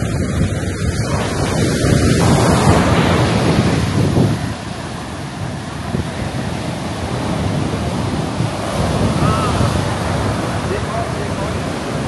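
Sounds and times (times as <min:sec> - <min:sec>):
ocean surf on a beach: 0:00.0 - 0:12.0
wind buffeting microphone: 0:00.0 - 0:12.0.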